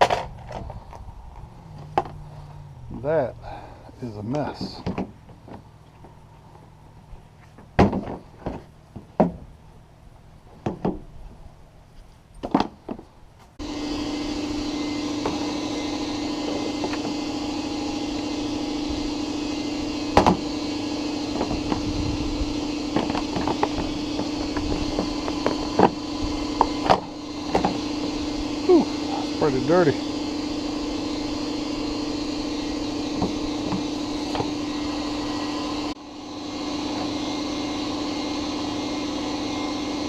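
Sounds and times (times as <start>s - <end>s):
machine humming: 0.0s - 11.8s, 13.6s - 40.0s.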